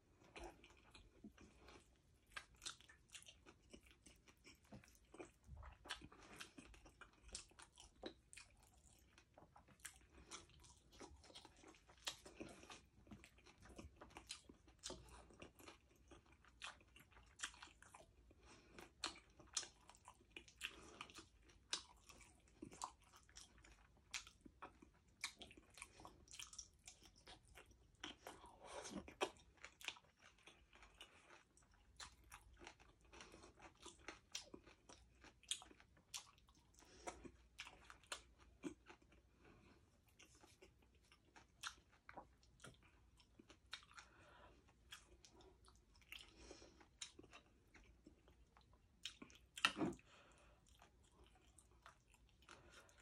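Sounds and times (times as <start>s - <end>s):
chewing crispy food: 0.0s - 53.0s.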